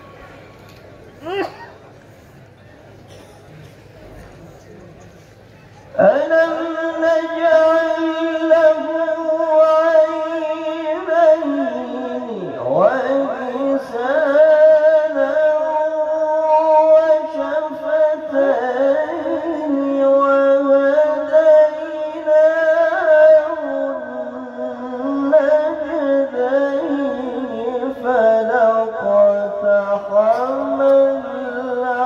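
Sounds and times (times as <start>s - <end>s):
man chanting melodically: 5.9s - 32.0s.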